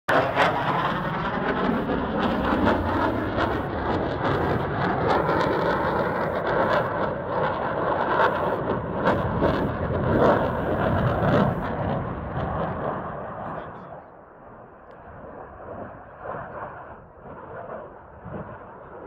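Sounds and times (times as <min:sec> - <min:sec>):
fighter jet roaring: 0:00.1 - 0:19.0.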